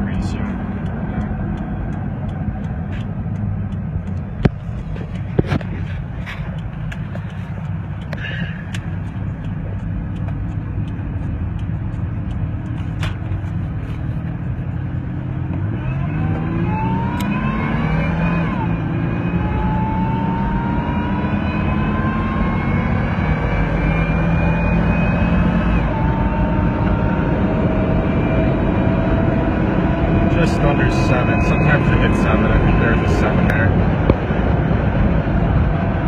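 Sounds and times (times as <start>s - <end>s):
pickup engine revving: 0.0s - 36.0s
supercharger whine: 0.0s - 36.0s.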